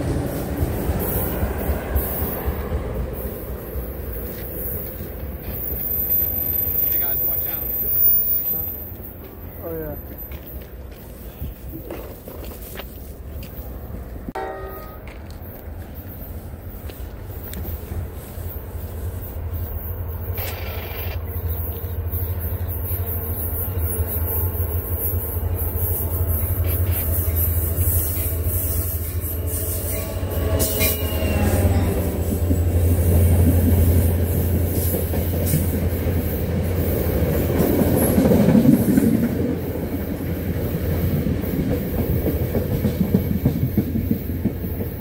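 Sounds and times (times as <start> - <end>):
train rumbling past: 0.0 - 45.0.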